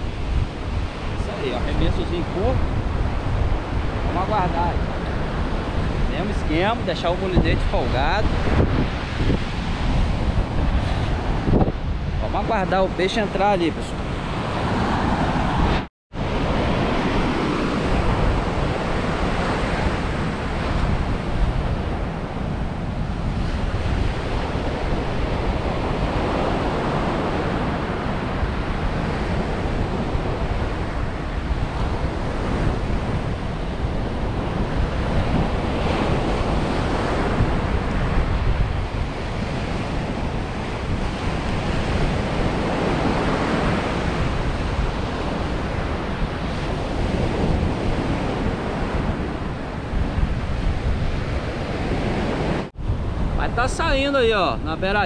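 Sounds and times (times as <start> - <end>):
ocean surf breaking: 0.0 - 55.0
wind buffeting microphone: 0.0 - 55.0.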